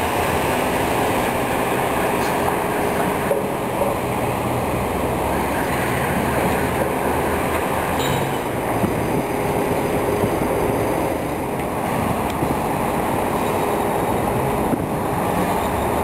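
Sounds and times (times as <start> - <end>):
heavy machinery engine rumble: 0.0 - 16.0.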